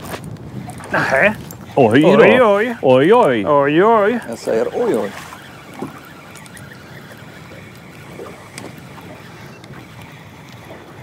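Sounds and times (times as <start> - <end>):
low wind: 0.0 - 11.0
water noise: 0.0 - 11.0.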